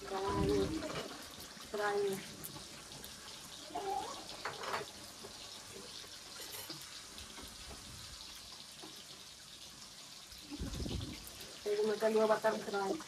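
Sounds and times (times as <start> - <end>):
pot simmering and bubbling: 0.0 - 13.0.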